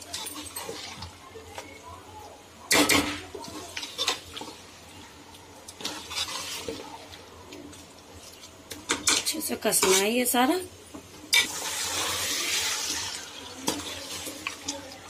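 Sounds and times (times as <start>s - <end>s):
food frying: 0.0s - 1.8s, 2.4s - 15.0s.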